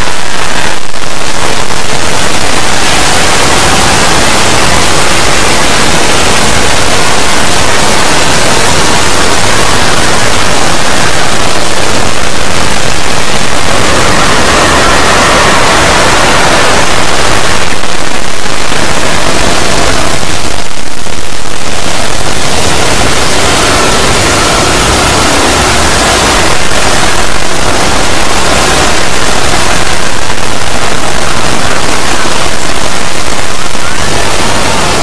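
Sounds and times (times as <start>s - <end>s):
loud clipped static noise: 0.0s - 35.0s.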